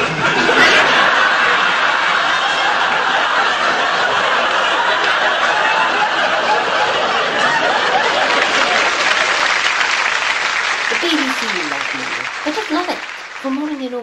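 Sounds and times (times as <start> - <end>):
actors giggling: 0.0 - 13.4
studio audience laughing: 0.0 - 13.7.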